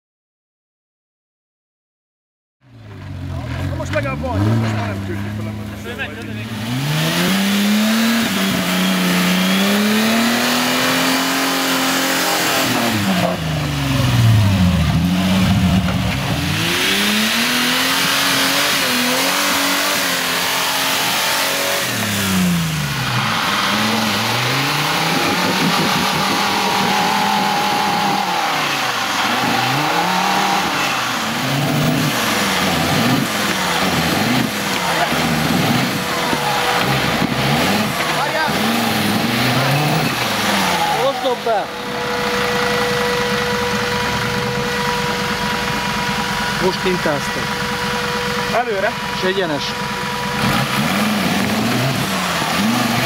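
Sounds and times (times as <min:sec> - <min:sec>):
truck engines revving hard: 0:02.7 - 0:53.0.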